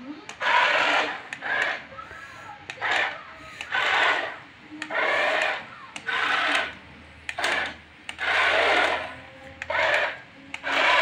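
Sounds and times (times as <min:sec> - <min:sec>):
toy truck motor whirring: 0:00.2 - 0:11.0.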